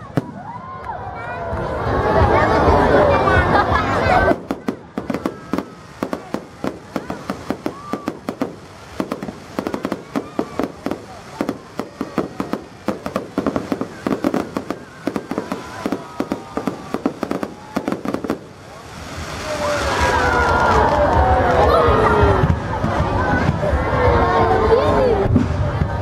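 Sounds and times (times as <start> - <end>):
fireworks popping and crackling: 0.0 - 0.8, 3.2 - 24.0.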